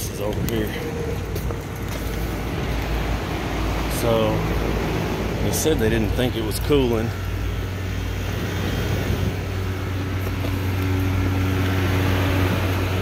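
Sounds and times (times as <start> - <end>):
air conditioning units humming: 0.0 - 13.0.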